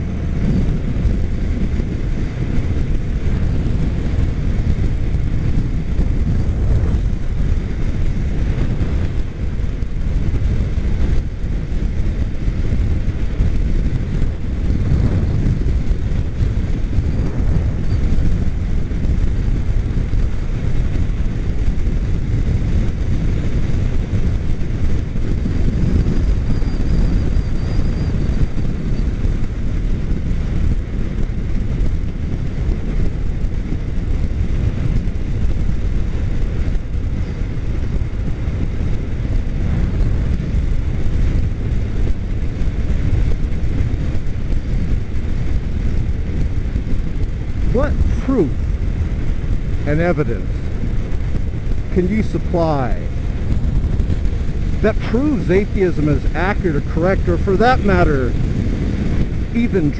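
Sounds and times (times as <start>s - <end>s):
motorcycle engine: 0.0s - 59.9s
wind rush: 0.0s - 59.9s.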